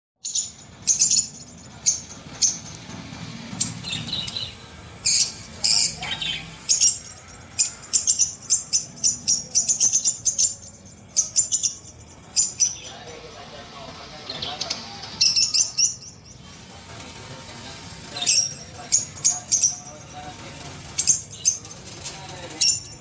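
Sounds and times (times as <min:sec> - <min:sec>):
small birds chirping: 0:00.2 - 0:23.0.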